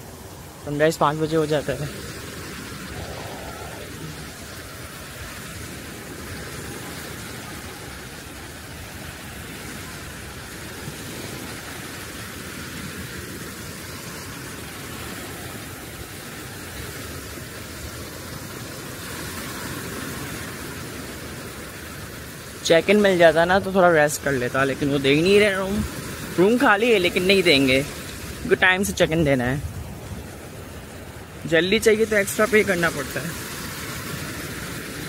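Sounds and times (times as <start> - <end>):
ocean surf on a beach: 0.0 - 35.0.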